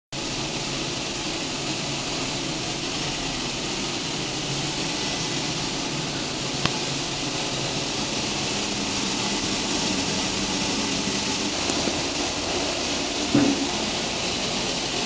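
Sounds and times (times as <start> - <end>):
sorting machine hissing: 0.2 - 15.0.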